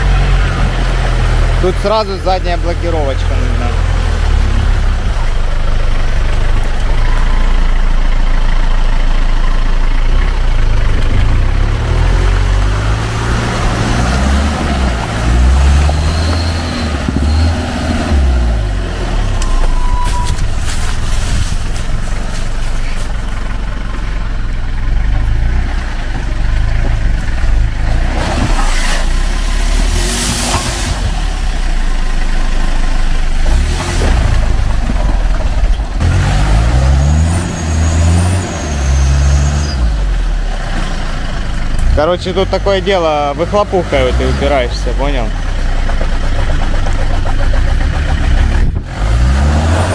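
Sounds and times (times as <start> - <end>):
engine revving: 0.0 - 49.9
tyres churning through mud: 0.0 - 49.9.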